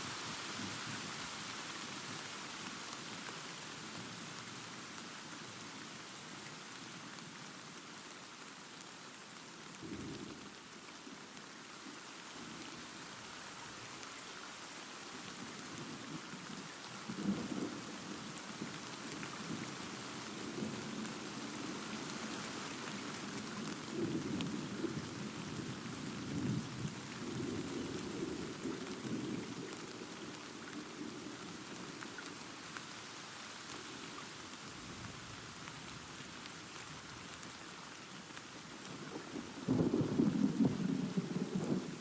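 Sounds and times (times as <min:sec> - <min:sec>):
steady rain hissing: 0:00.0 - 0:42.0.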